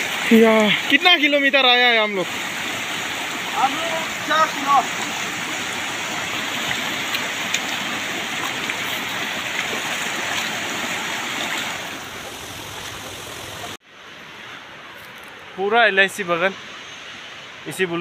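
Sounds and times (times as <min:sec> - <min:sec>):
stream rushing over rocks: 0:00.0 - 0:14.9.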